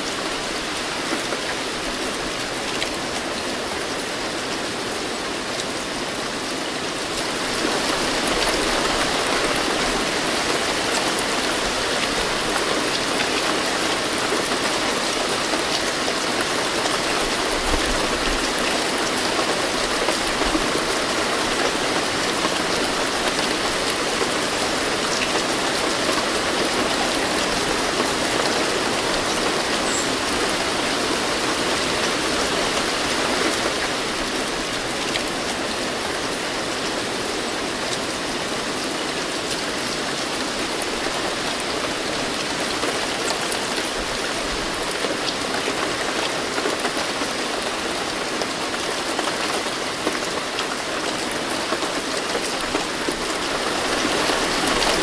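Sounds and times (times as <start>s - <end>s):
raindrops pattering on surface: 0.1s - 55.0s.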